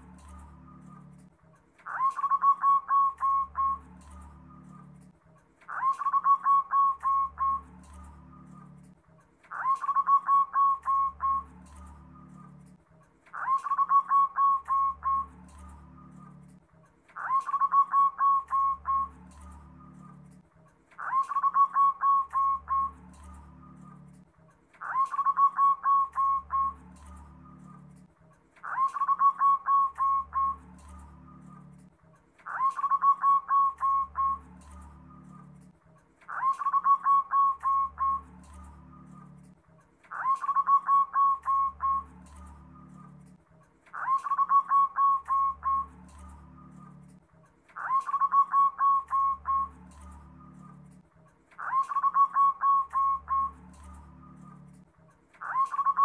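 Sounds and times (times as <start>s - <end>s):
dove cooing: 0.0s - 16.6s, 17.2s - 20.4s, 21.0s - 24.2s, 24.8s - 35.7s, 36.3s - 39.5s, 40.1s - 43.3s, 43.9s - 47.2s, 47.8s - 50.8s, 51.6s - 54.7s, 55.4s - 56.0s.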